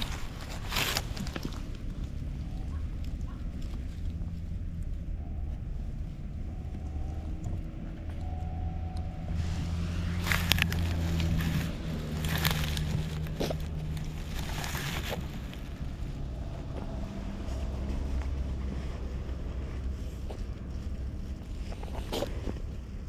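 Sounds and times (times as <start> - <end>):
dry grass crackling and rustling: 0.0 - 23.0
low mechanical hum: 0.0 - 23.0.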